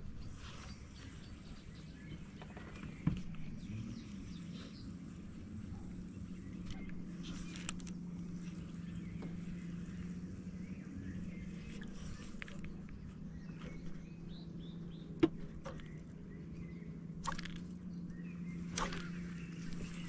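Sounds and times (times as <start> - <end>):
bird chirps: 0.0 - 20.0
steady low hum: 0.0 - 20.0.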